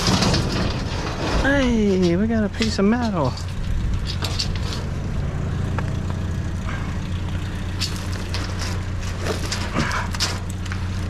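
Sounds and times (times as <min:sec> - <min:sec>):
metal and debris clicking: 0:00.0 - 0:06.0, 0:07.2 - 0:11.0
engine idling: 0:00.0 - 0:11.0.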